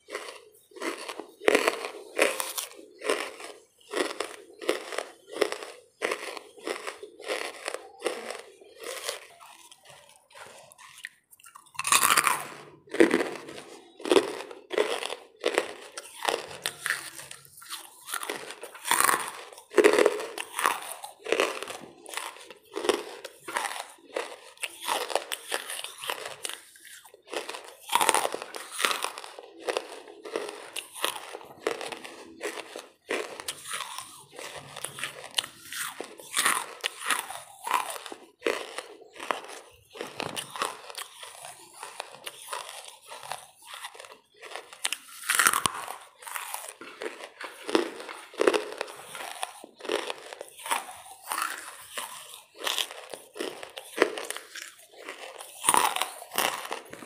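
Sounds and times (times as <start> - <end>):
charcoal crunching being chewed: 0.0 - 57.0.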